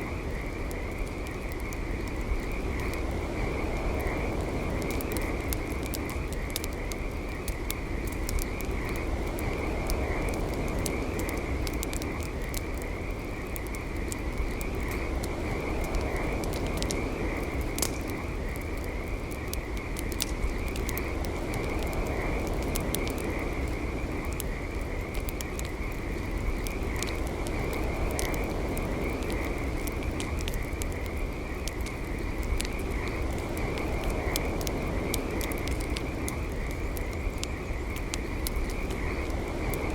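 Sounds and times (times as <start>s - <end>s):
campfire crackling and popping: 0.0s - 39.9s
frogs trilling chorus: 0.0s - 39.9s.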